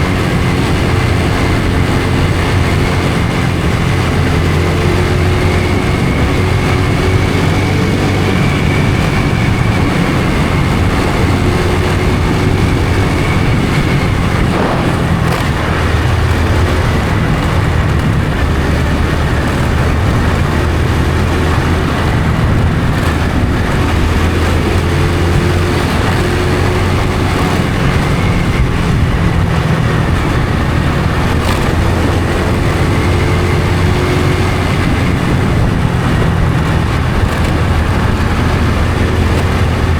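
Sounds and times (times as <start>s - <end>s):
motorcycle engine running: 0.0s - 39.9s
riding wind noise: 0.0s - 39.9s.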